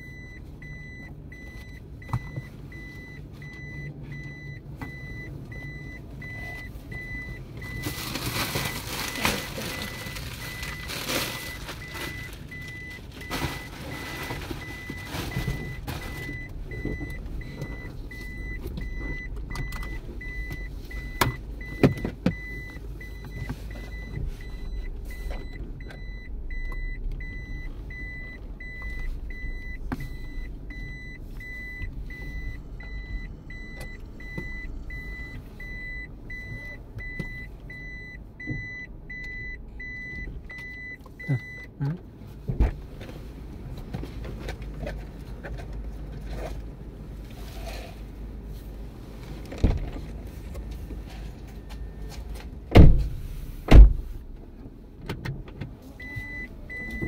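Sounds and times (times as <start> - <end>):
low engine rumble: 0.0 - 57.0.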